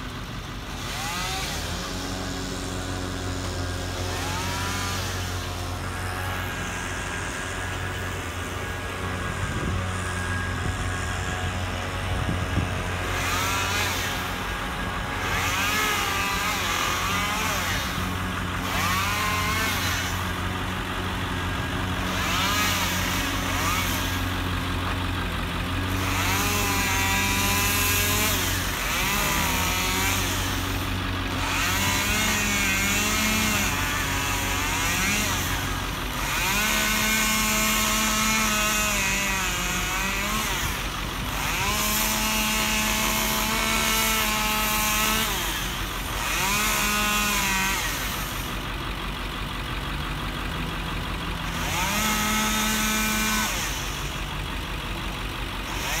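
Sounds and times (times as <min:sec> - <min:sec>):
chainsaw revving while cutting: 0:00.0 - 0:48.7, 0:51.4 - 0:54.4, 0:55.6 - 0:56.0
truck engine hum: 0:00.0 - 0:56.0.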